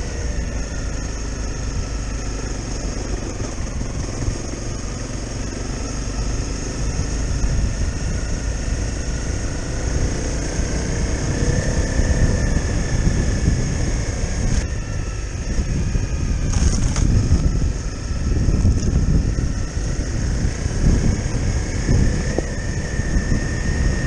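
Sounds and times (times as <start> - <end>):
motorcycle engine running: 0.0 - 24.0
wind rumble on microphone: 0.0 - 24.0.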